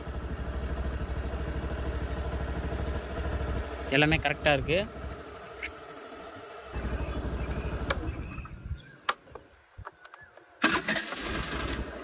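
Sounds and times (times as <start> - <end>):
scooter engine running: 0.0 - 8.8, 10.6 - 12.0.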